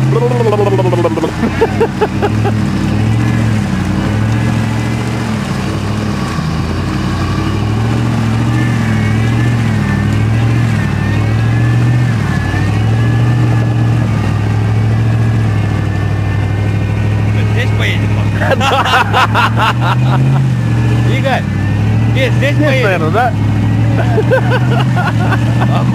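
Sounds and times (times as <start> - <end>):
off-road vehicle engine revving: 0.0 - 25.9.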